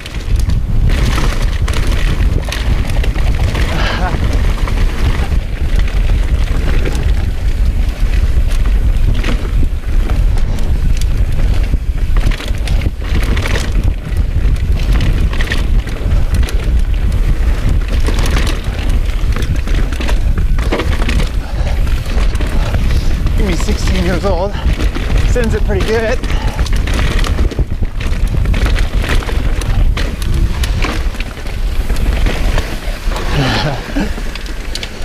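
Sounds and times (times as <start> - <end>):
bike clattering over rocks: 0.0 - 35.0
tyres rolling over dirt and stones: 0.0 - 35.0
wind buffeting microphone: 0.0 - 35.0.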